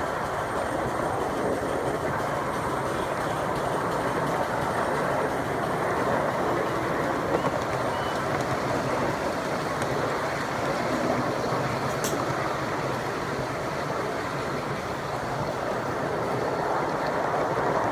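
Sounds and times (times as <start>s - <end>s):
small wheels rumbling on rail: 0.0s - 17.9s.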